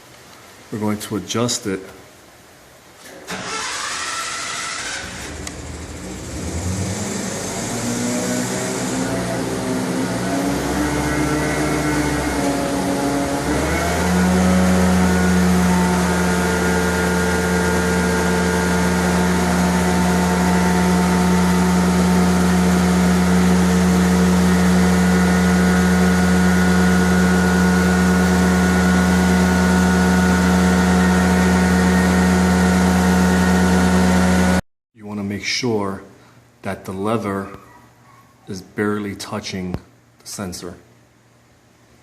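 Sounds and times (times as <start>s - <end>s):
steady mechanical hum: 0.0s - 42.0s.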